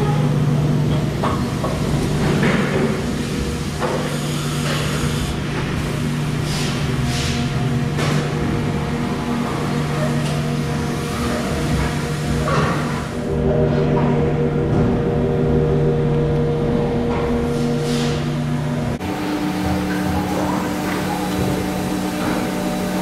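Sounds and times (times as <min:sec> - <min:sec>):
factory machinery hum: 0:00.0 - 0:23.0.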